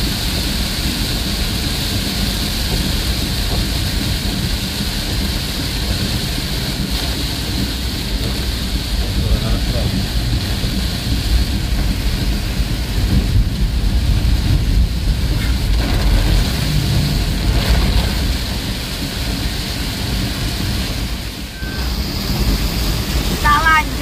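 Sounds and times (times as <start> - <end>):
deep continuous rumble: 0.0 - 24.0
heavy rain on vehicle: 0.0 - 24.0.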